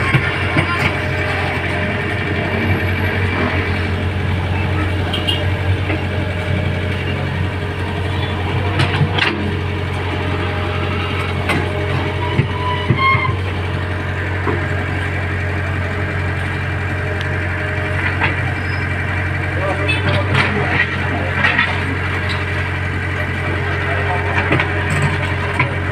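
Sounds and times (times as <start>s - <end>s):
vehicle engine idling: 0.0s - 25.9s.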